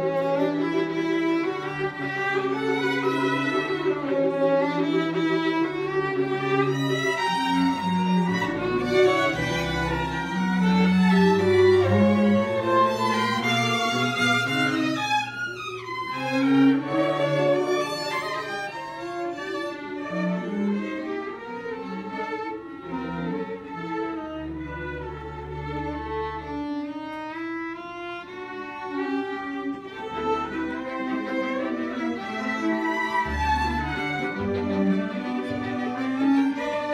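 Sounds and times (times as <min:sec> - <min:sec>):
string ensemble playing: 0:00.0 - 0:36.9.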